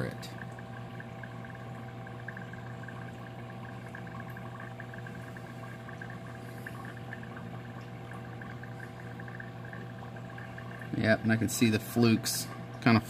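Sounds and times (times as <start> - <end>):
air line bubbling: 0.0 - 13.0
aquarium equipment hum: 0.0 - 13.0.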